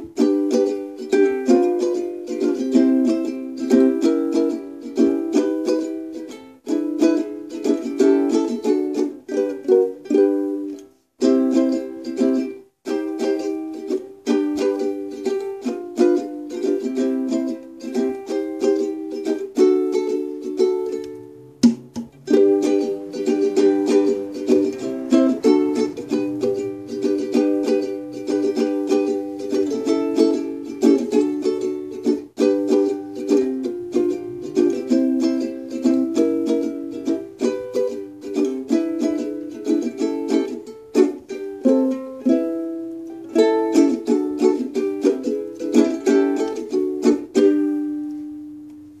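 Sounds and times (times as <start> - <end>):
ukulele strumming chords: 0.0 - 49.0.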